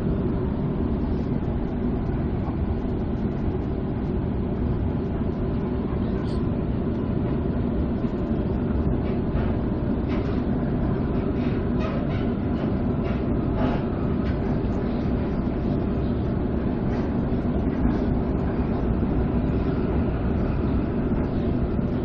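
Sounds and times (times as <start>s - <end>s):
train rumble inside carriage: 0.0s - 22.0s.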